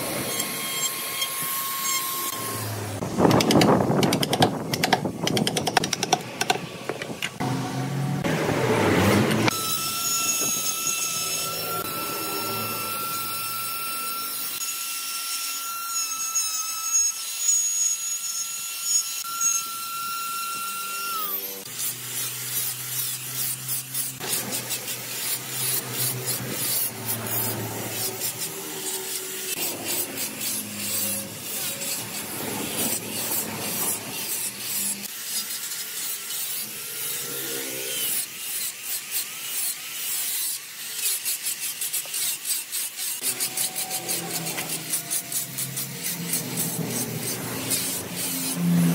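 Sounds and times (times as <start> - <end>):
angle grinder sanding wood: 0.0 - 3.3, 7.4 - 48.9
die grinder whining: 0.0 - 6.5, 7.3 - 48.9.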